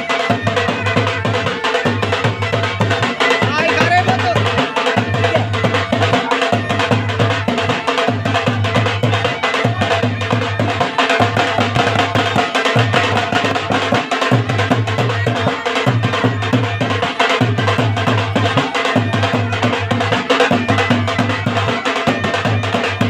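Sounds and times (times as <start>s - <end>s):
bagpipe melody with drones: 0.0s - 23.0s
drum beating dance rhythm: 0.0s - 23.0s.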